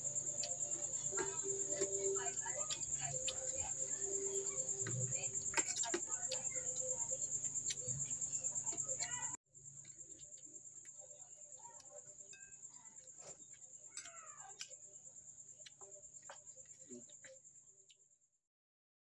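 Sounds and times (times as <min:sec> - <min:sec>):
crickets chirping: 0:00.0 - 0:18.4.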